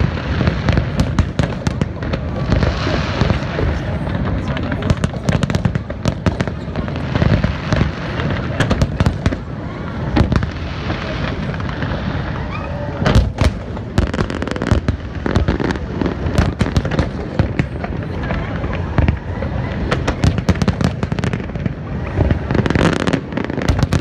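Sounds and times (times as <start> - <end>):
fireworks bursting and crackling: 0.0 - 24.0
loud firework bangs: 0.0 - 24.0.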